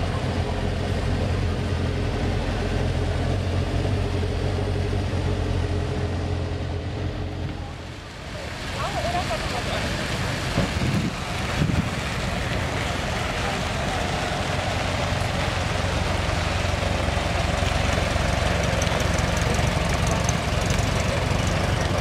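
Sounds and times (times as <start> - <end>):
car engine passing: 0.0 - 22.0.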